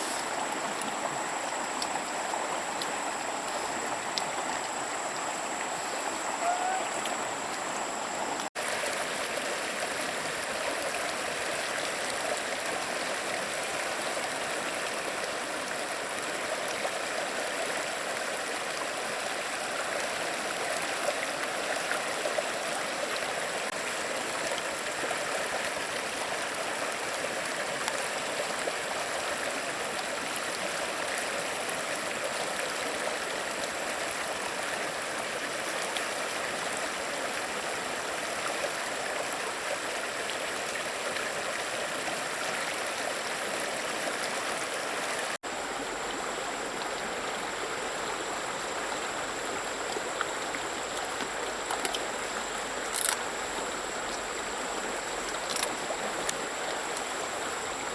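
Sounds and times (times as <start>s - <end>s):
stream flowing: 0.0s - 57.9s.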